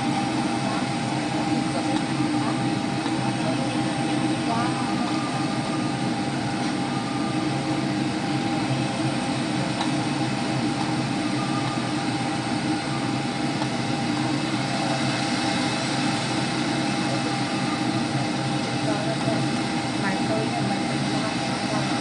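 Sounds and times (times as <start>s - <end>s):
airliner cabin engine rush: 0.0s - 22.0s.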